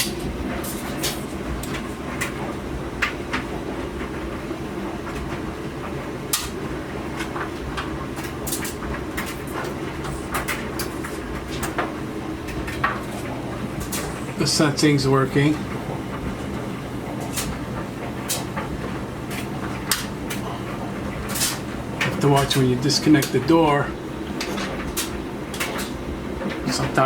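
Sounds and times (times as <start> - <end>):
clothes dryer running: 0.0 - 27.0
clothes knocking in dryer drum: 0.0 - 27.0.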